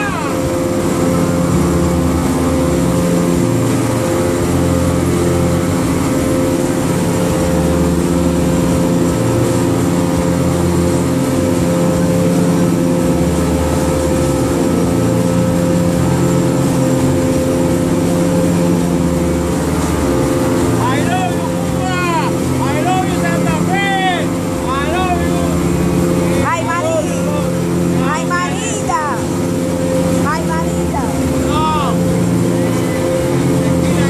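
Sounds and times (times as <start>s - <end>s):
outboard motor running: 0.0s - 34.0s
wind and water rushing: 0.0s - 34.0s.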